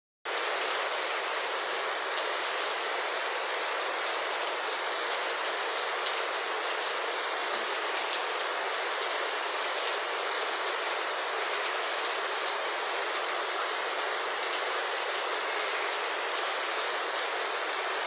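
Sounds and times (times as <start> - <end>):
heavy rain on foliage and pavement: 0.3 - 18.0.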